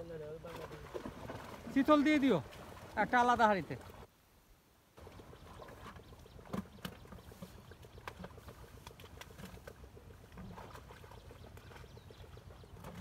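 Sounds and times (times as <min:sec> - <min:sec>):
water splashing: 0:00.0 - 0:04.1, 0:05.0 - 0:13.0.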